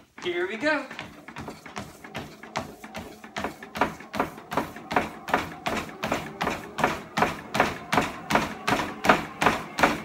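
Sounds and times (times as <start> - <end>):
footfalls on treadmill belt: 0.0 - 10.0
treadmill hum: 0.0 - 10.0.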